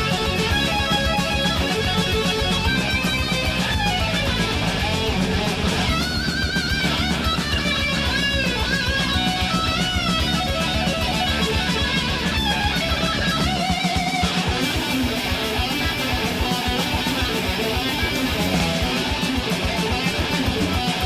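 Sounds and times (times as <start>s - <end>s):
bass guitar: 0.0s - 21.0s
distorted electric guitar: 0.0s - 21.0s
fast drums: 0.0s - 21.0s.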